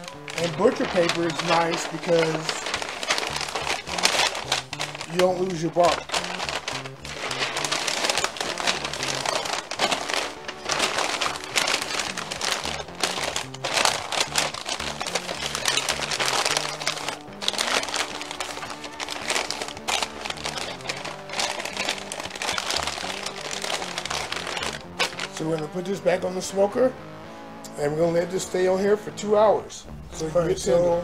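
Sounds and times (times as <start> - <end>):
paper crinkling and rustling: 0.0 - 26.1
background music with bass line: 0.0 - 31.0.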